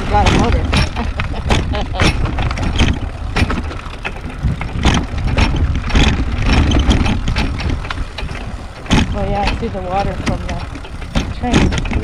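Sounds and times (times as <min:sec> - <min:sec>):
steel wheels rumbling on rails: 0:00.0 - 0:12.0
wheels clacking over rails: 0:00.0 - 0:12.0.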